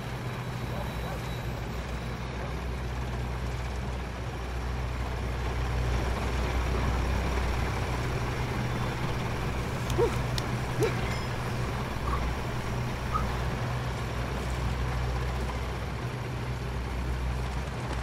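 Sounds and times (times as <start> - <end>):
vehicle engine idling: 0.0 - 17.6.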